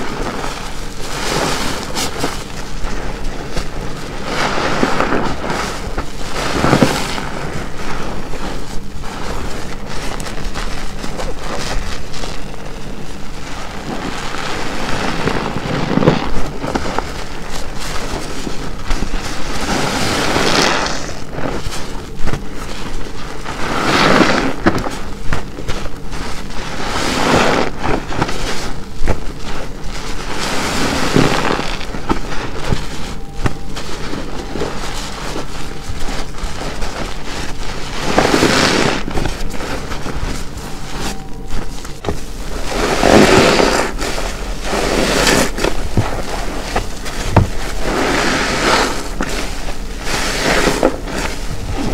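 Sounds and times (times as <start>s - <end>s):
sponge squelching: 0.0s - 51.9s
wet crackle: 0.0s - 51.9s.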